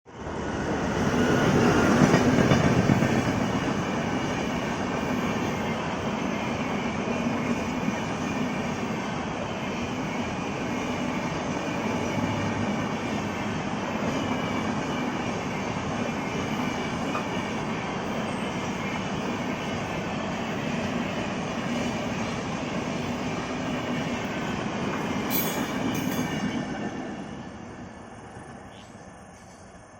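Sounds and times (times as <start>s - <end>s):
train rumbling on rails: 0.1s - 29.9s.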